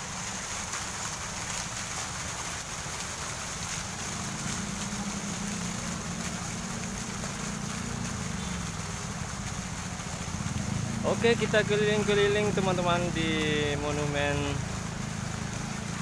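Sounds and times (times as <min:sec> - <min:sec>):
constant hiss: 0:00.0 - 0:16.0.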